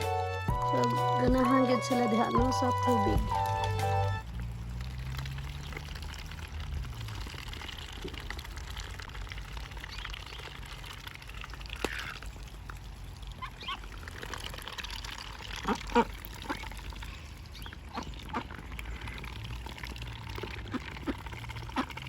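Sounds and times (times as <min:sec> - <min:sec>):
ducks splashing in water: 0:00.0 - 0:22.0.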